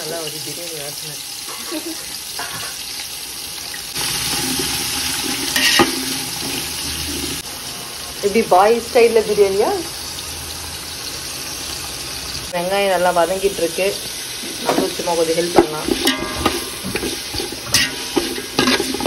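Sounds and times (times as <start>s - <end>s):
kitchen cooking hiss: 0.0s - 19.0s.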